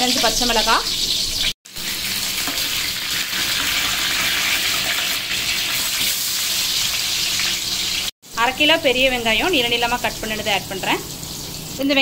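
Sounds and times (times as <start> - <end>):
hot oil sizzling in a pot: 0.0 - 12.0.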